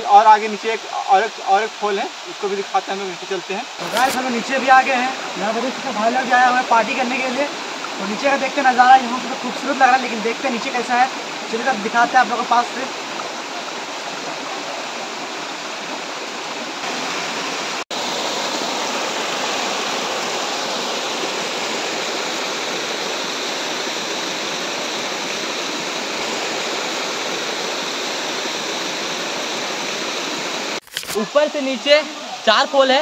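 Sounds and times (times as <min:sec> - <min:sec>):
stream water rushing over rocks: 0:00.0 - 0:33.0.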